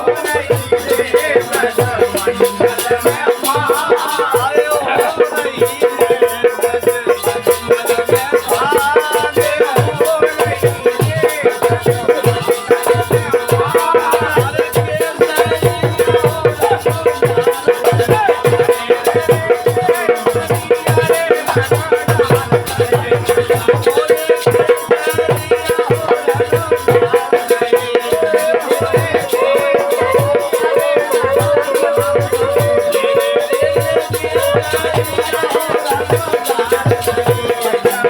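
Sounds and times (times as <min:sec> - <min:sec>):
drum beat: 0:00.0 - 0:38.0
jingling rattle percussion: 0:00.0 - 0:38.0
voices singing: 0:00.0 - 0:38.0.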